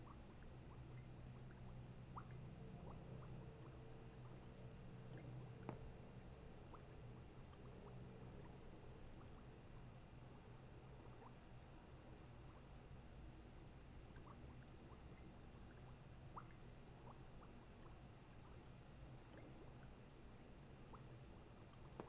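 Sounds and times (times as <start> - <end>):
faint ticks: 0.0 - 9.7, 13.6 - 22.0
low room hum: 0.0 - 22.0.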